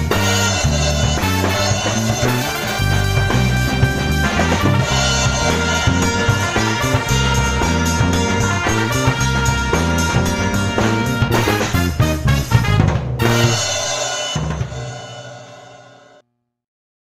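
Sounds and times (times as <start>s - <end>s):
bass guitar riff: 0.0s - 14.8s
drum kit keeping time: 0.0s - 16.2s.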